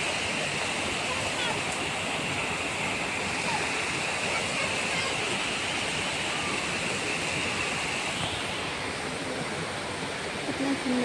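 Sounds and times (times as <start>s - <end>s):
torrential rain pouring: 0.0s - 11.0s.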